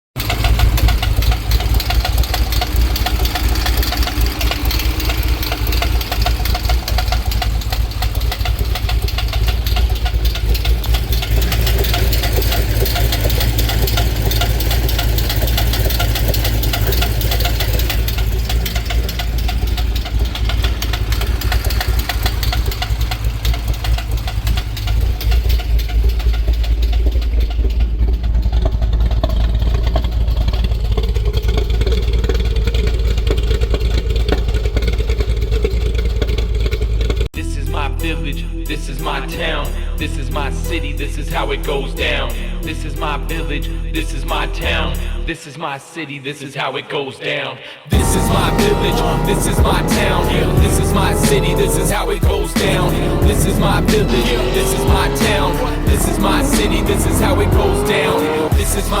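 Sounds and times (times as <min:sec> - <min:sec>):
car engine running: 0:00.0 - 0:37.4, 0:47.9 - 0:59.0.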